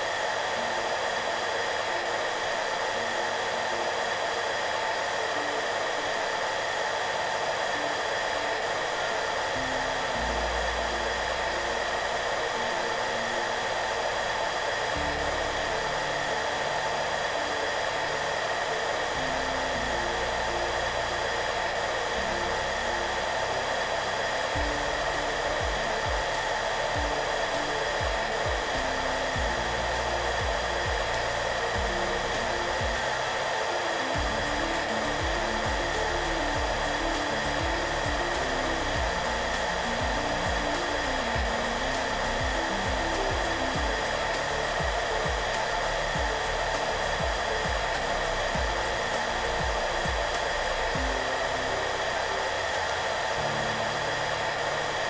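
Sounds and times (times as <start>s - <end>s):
hair dryer running: 0.0s - 55.0s
soft background music: 0.0s - 55.0s.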